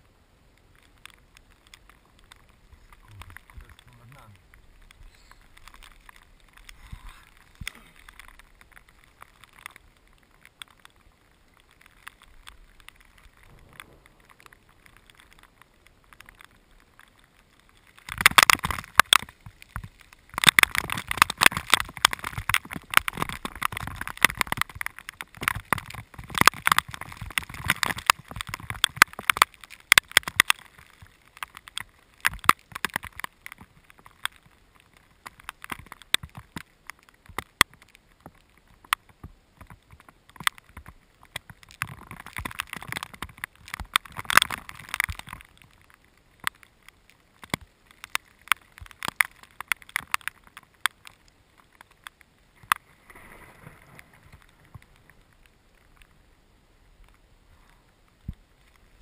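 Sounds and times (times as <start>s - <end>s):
heavy rain falling: 0.0s - 59.0s
raindrops tapping on microphone: 0.0s - 59.0s.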